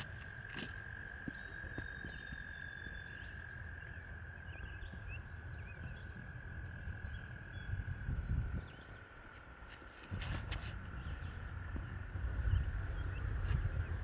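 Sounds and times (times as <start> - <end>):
bird chirps: 0.0 - 14.0
frogs trilling: 0.0 - 14.0
wind rumble on microphone: 0.0 - 14.0.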